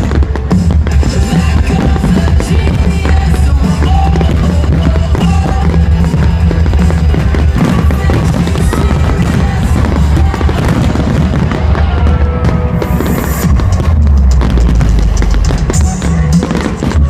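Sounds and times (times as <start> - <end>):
fireworks bangs: 0.0 - 17.0
music with heavy bass beat: 0.0 - 17.0.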